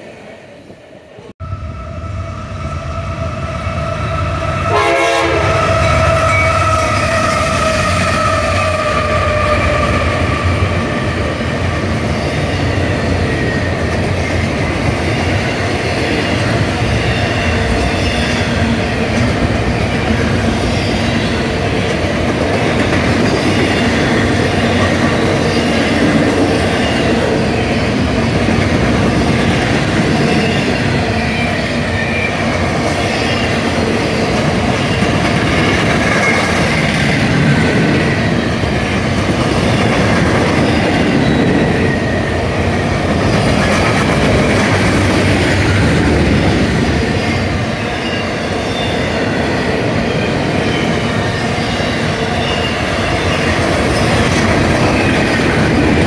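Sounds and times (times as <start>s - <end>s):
train cars rolling by: 0.0s - 56.0s.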